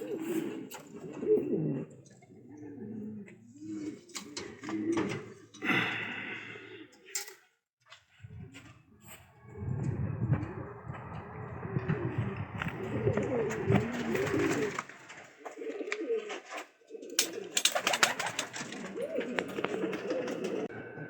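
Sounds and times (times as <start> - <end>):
pigeons cooing: 0.0 - 7.1, 9.4 - 21.0.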